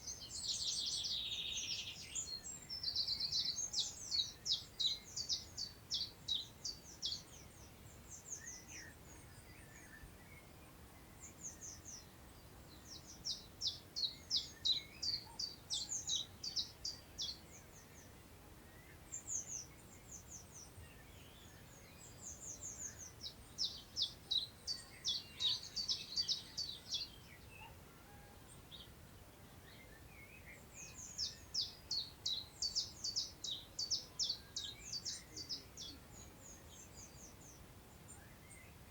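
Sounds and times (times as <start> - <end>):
songbird singing: 0.0 - 38.9
wind in long grass: 0.0 - 38.9.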